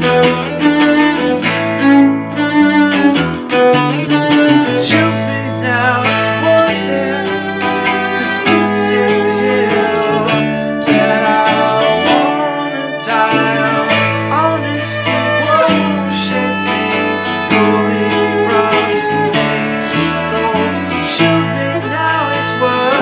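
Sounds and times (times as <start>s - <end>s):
fiddle melody: 0.0s - 23.0s
strummed acoustic guitar: 0.0s - 23.0s.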